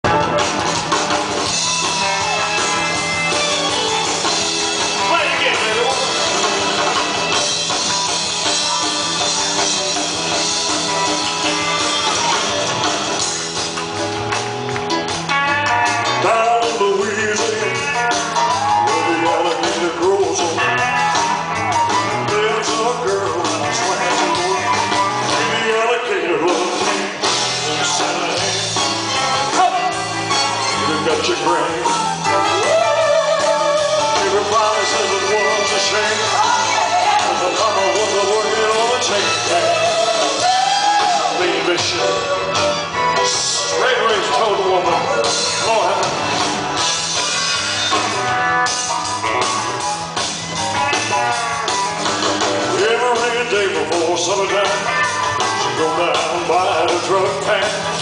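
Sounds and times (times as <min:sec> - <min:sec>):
electric guitar: 0:00.0 - 0:58.0
live rock and roll band: 0:00.0 - 0:58.0.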